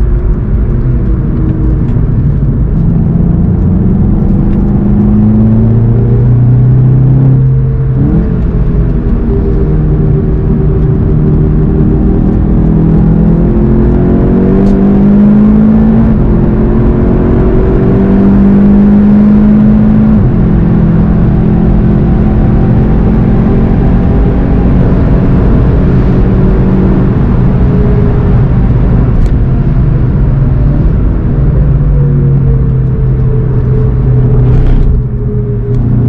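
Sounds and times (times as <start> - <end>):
car engine accelerating hard: 0.0 - 36.0
road and wind noise: 0.0 - 36.0.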